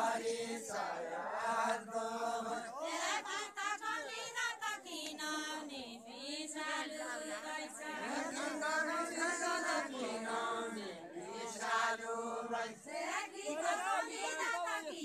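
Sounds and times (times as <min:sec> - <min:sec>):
voices chanting a folk song: 0:00.0 - 0:15.0.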